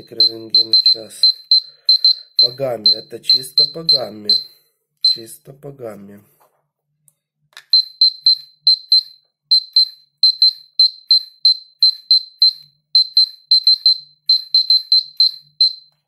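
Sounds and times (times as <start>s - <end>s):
dosimeter short high beeps: 0.0s - 5.3s, 7.7s - 15.9s.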